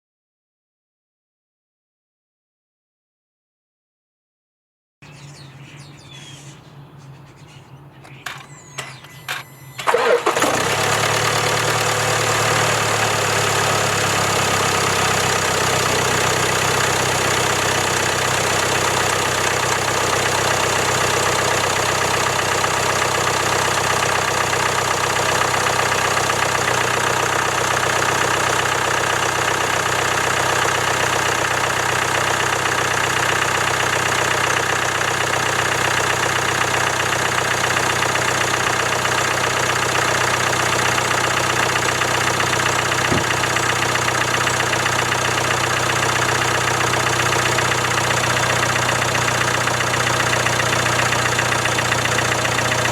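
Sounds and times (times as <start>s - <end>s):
diesel engine idling: 8.2s - 52.9s.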